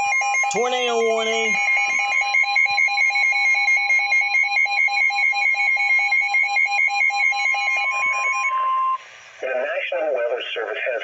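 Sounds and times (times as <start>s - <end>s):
steady warning tone: 0.0s - 9.0s.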